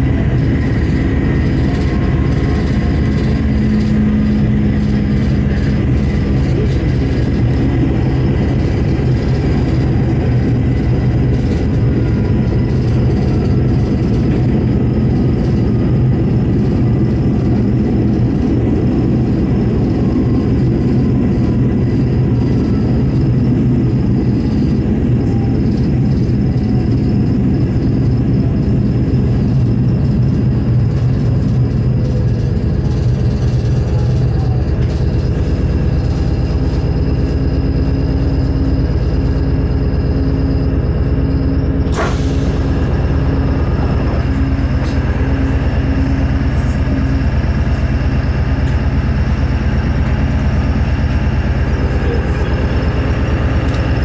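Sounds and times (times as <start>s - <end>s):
railcar engine drone: 0.0s - 54.0s
wheels rolling on track: 0.0s - 54.0s.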